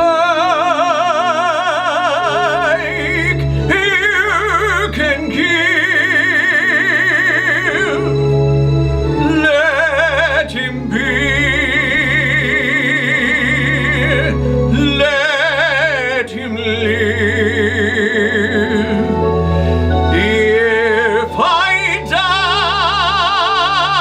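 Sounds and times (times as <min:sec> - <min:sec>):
operatic singing: 0:00.0 - 0:24.0
sustained low accompaniment: 0:00.0 - 0:24.0.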